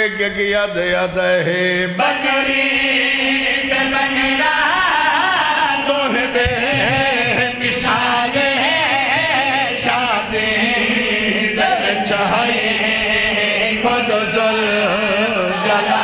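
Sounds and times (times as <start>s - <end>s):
men chanting through loudspeakers: 0.0s - 16.0s.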